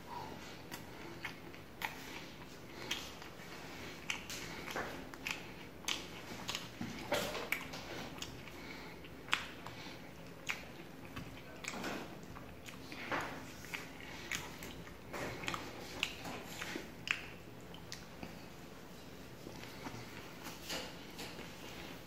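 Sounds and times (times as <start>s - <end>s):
chewing with wet mouth clicks: 0.4s - 18.6s.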